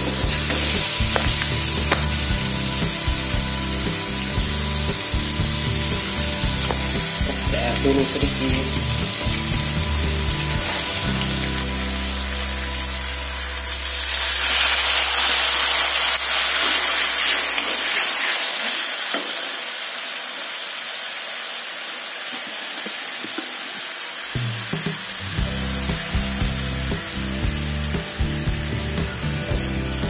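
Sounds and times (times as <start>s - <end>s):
sauce sizzling in a wok: 0.0s - 30.0s.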